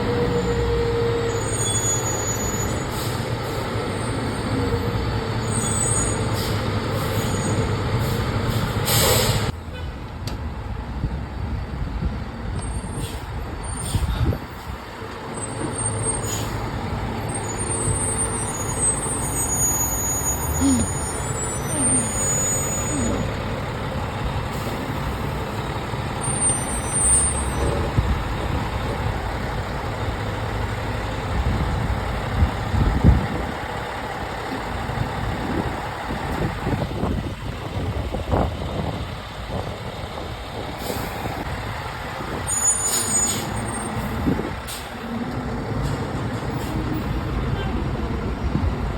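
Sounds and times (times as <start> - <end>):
diesel engine rumbling: 0.0 - 48.9.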